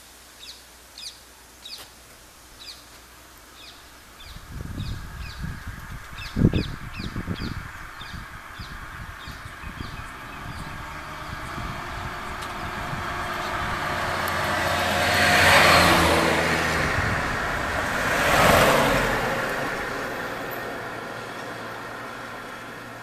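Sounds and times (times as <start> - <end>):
vehicles driving past: 3.0 - 23.0.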